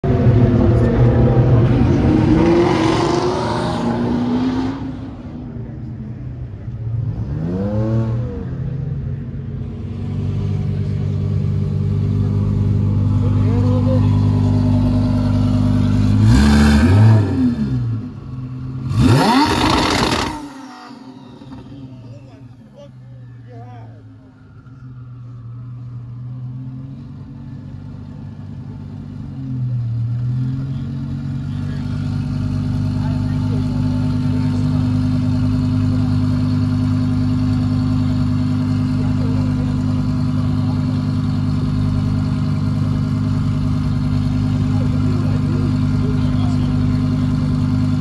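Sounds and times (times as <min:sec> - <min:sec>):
car engine idling loudly: 0:08.9 - 0:20.4, 0:21.0 - 0:48.0.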